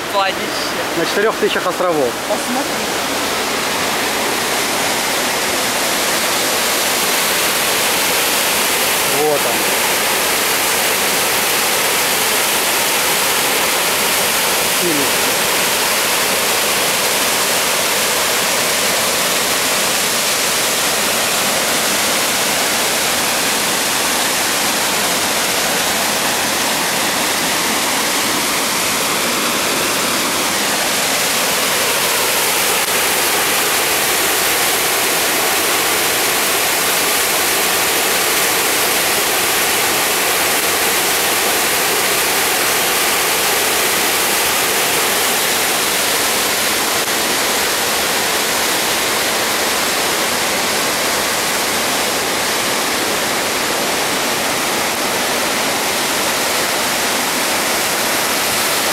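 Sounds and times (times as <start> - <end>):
whitewater roaring through rapids: 0.0 - 58.9.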